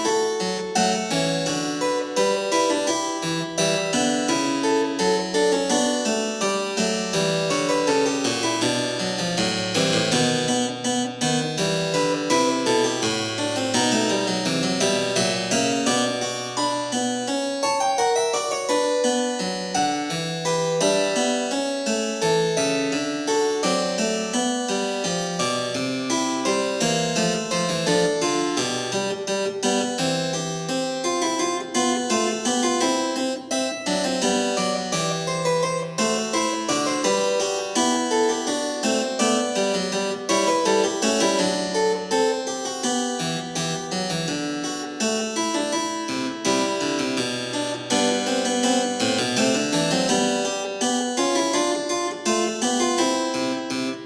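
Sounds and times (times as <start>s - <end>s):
plucked harpsichord-like keyboard music: 0.0s - 54.0s.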